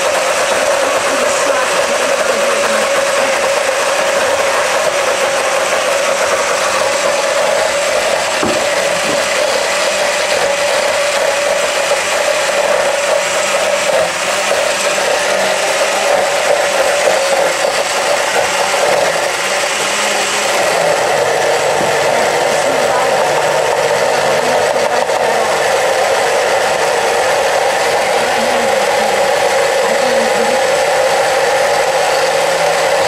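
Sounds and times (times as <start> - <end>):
blender motor running: 0.0 - 33.0.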